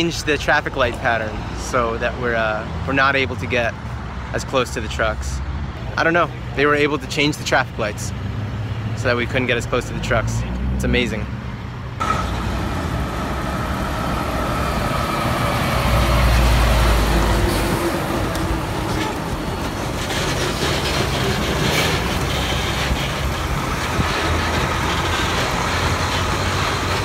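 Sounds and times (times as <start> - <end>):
truck engine and tyre noise: 0.0 - 27.0.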